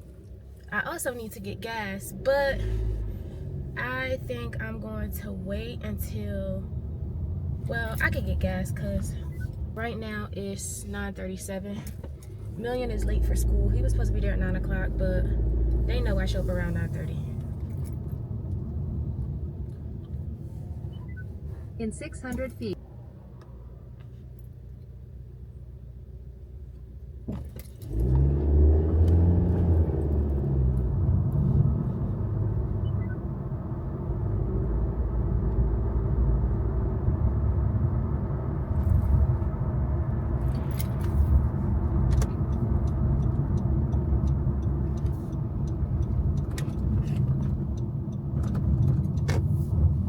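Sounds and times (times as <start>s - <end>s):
car engine and road noise: 0.0s - 50.0s.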